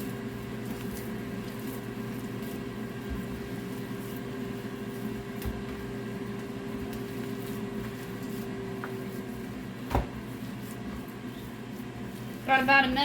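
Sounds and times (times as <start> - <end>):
hands mashing wet mixture: 0.0 - 13.0
steady appliance hum: 0.0 - 13.0.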